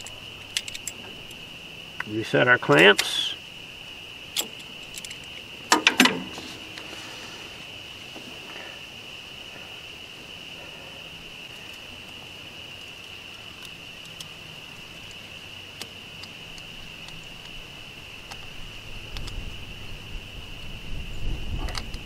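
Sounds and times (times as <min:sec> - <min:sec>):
insect chorus droning: 0:00.0 - 0:22.0.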